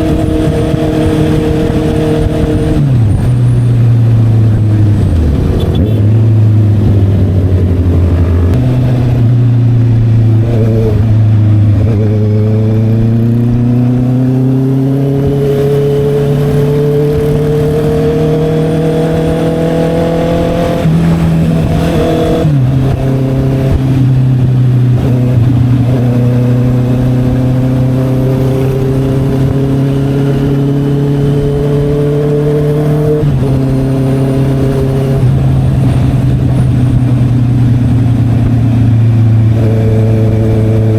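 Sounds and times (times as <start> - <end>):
motorcycle accelerating: 0.0 - 40.9.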